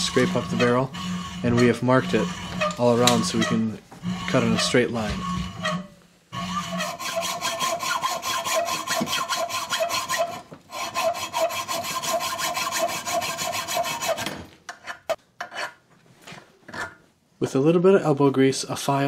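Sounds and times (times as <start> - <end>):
hacksaw sawing through steel: 0.0 - 15.8.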